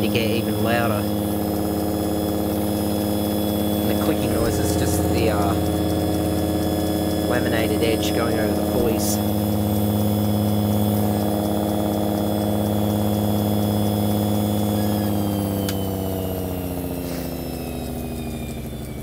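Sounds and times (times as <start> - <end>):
air raid siren winding down: 0.0 - 19.0.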